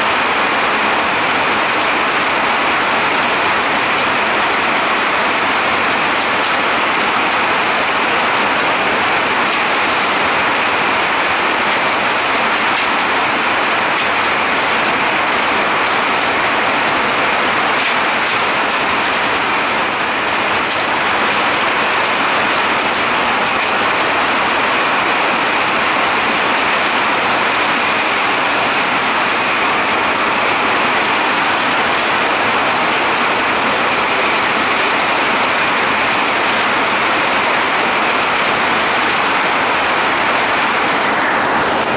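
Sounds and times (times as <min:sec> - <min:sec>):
hailstones ticking: 0:00.0 - 0:41.9
heavy rain hiss: 0:00.0 - 0:41.9.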